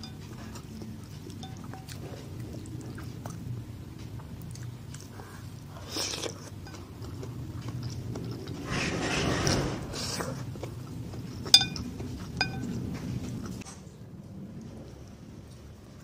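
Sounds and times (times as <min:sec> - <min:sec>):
chewing with small clicks: 0:00.0 - 0:08.7, 0:10.2 - 0:16.0.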